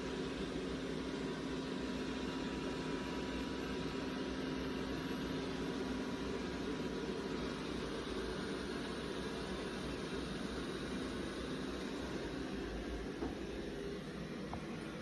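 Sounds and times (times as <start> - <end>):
robot vacuum cleaner humming: 0.0 - 15.0.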